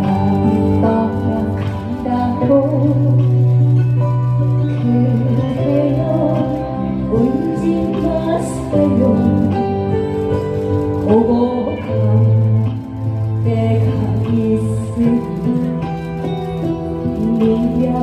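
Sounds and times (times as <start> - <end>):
slow instrumental backing track: 0.0 - 18.0.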